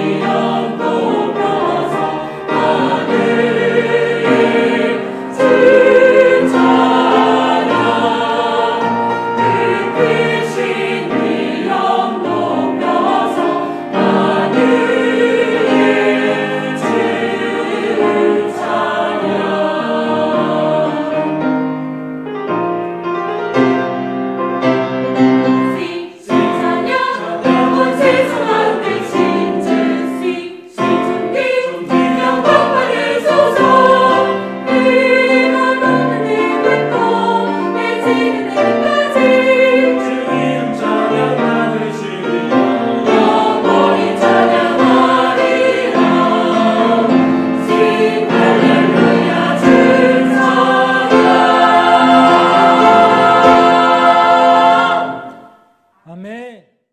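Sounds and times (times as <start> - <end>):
mixed choir singing a hymn: 0.0 - 21.9, 24.0 - 55.7
piano: 0.0 - 56.0.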